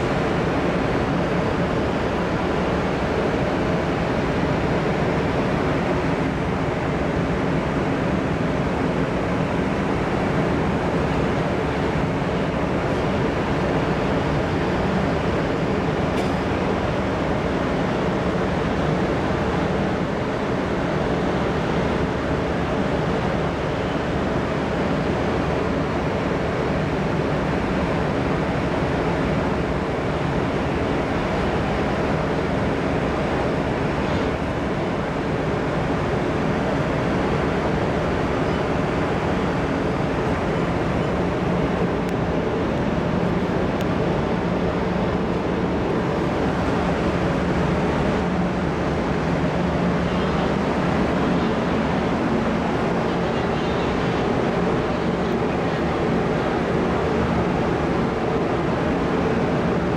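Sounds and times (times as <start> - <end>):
ship engines droning: 0.0 - 59.9.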